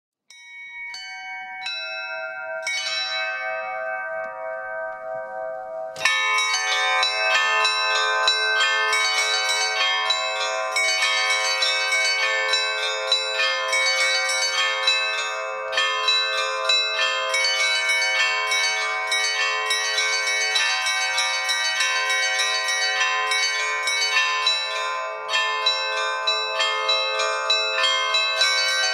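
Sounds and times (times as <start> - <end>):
church bells ringing: 0.3 - 28.9.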